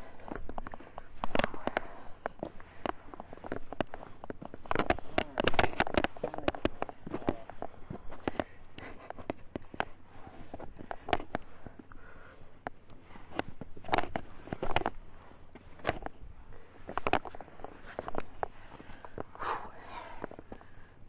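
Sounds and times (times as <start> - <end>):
boots and hands on rock: 0.0 - 20.9.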